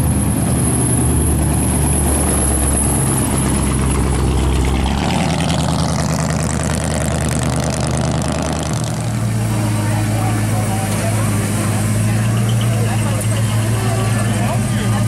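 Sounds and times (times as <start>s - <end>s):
car engine rumble passing by: 0.0s - 15.0s.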